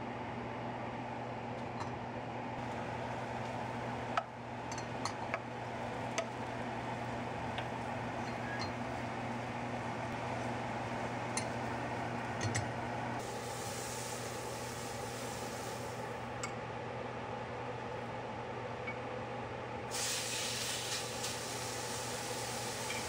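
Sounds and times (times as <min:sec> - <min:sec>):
steady fan hum: 0:00.0 - 0:23.0.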